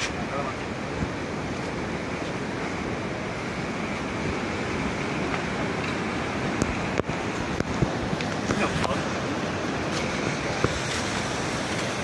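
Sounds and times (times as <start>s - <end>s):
ocean surf washing: 0.0s - 12.0s
wind on microphone: 0.0s - 12.0s.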